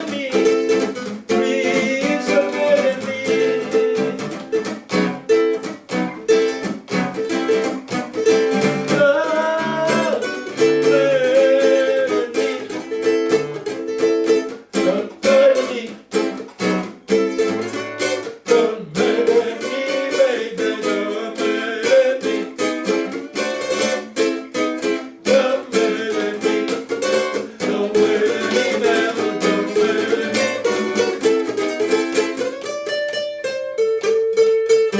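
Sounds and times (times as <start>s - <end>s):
fast ukulele strumming: 0.0s - 34.9s.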